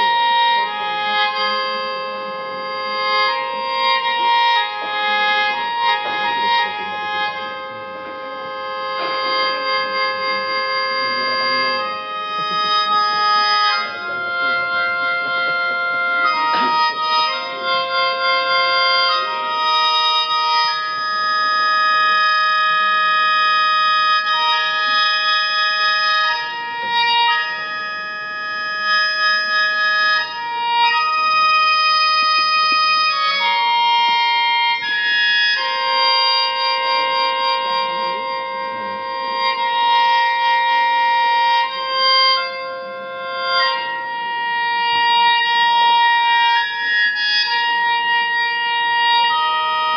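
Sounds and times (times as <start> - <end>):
flute playing slow melody: 0.0 - 49.9.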